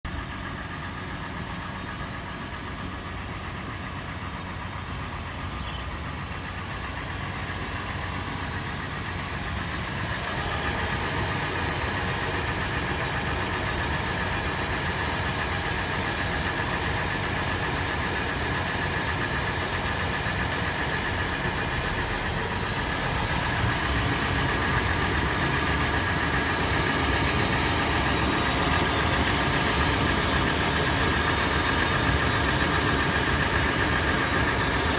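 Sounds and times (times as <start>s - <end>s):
engine idling: 0.0s - 34.9s
engine clattering tapping: 0.2s - 34.9s.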